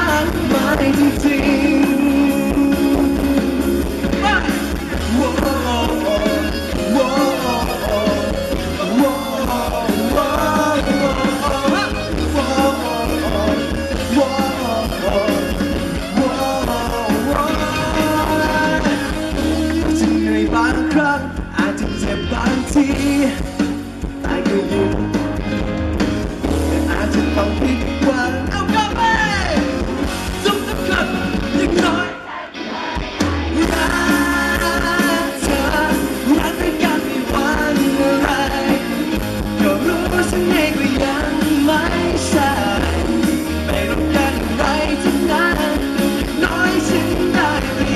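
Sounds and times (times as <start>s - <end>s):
man singing into a microphone: 0.0s - 25.4s, 26.6s - 29.7s, 30.4s - 32.3s, 33.5s - 47.9s
rock band playing: 0.0s - 47.9s.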